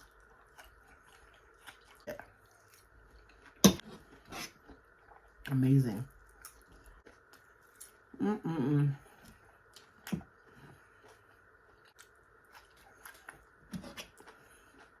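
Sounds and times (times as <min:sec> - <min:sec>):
person chewing food: 0:00.0 - 0:05.5, 0:06.2 - 0:08.1, 0:09.0 - 0:15.0.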